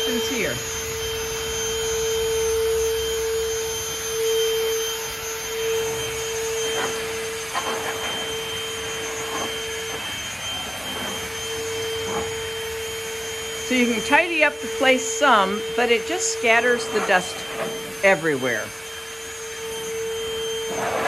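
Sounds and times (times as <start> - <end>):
shop vacuum motor whine: 0.0 - 21.0.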